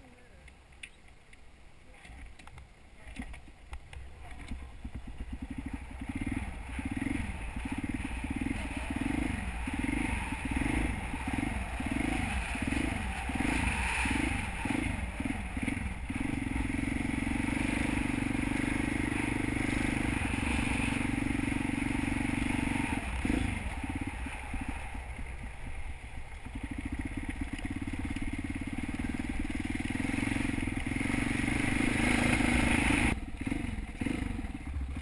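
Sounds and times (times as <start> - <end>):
motorcycle engine revving: 4.3 - 35.0.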